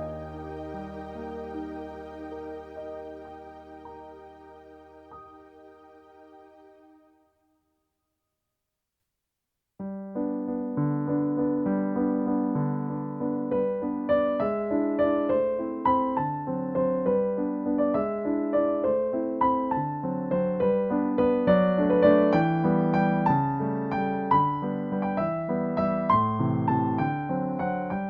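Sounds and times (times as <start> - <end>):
calm piano music: 0.0 - 7.3, 9.8 - 28.0.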